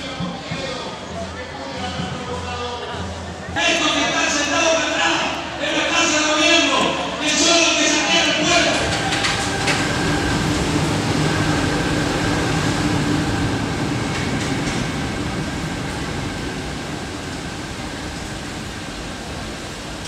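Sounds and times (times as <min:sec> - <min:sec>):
subway train rumbling past: 0:00.0 - 0:20.0.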